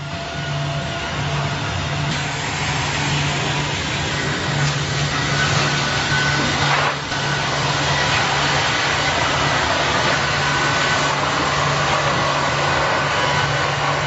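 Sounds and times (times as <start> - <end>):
log sawing machine running: 0.0 - 14.0.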